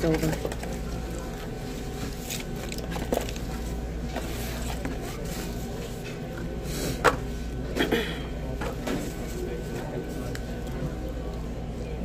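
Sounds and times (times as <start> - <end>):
faint background voices: 0.0 - 12.0.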